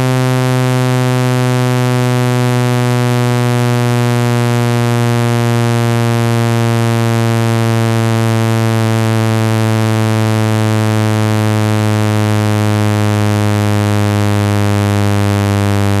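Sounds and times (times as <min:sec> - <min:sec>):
synthesized low buzzing tone: 0:00.0 - 0:16.0.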